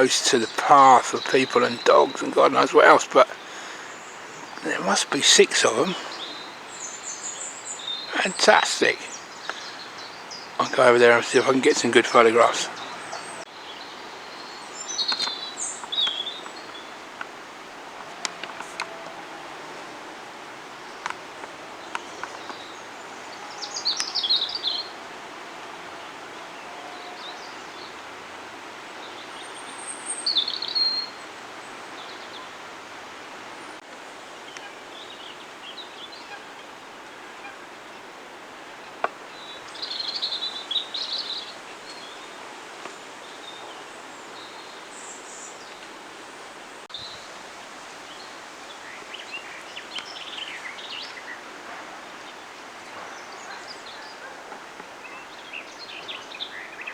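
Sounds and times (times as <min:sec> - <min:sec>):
birds chirping: 0:00.0 - 0:56.9
outdoor background hiss: 0:00.0 - 0:56.9.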